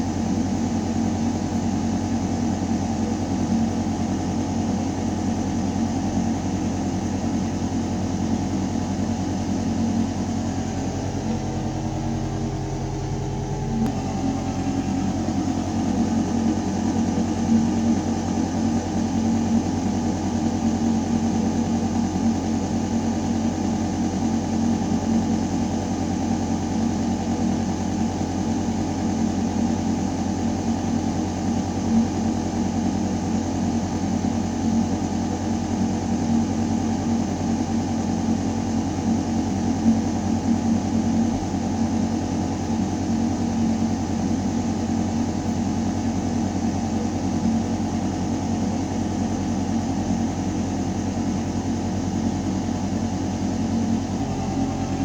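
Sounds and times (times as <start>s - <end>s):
ventilation fan hum: 0.0s - 55.0s.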